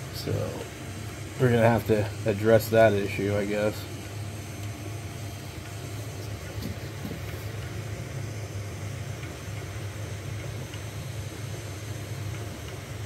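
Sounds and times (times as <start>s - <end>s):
printer fans and motors humming: 0.0s - 13.0s.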